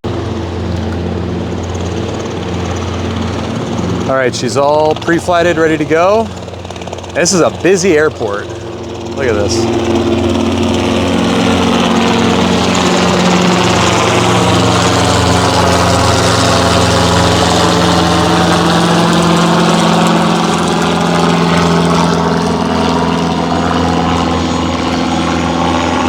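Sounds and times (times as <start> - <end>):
aircraft piston engine idling: 0.1 - 26.0.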